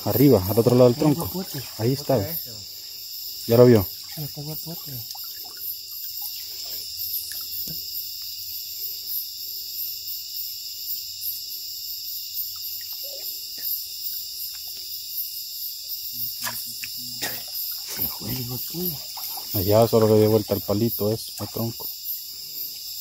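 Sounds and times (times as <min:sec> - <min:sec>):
crickets and insects trilling: 0:00.0 - 0:23.0.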